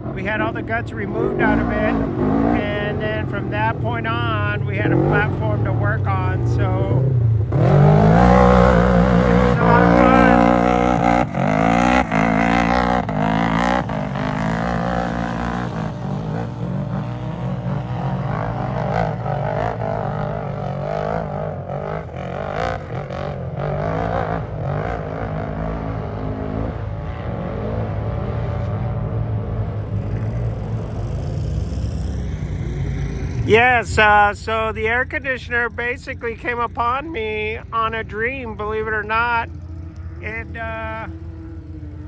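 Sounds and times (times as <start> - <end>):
off-road vehicle engines: 0.0 - 42.0.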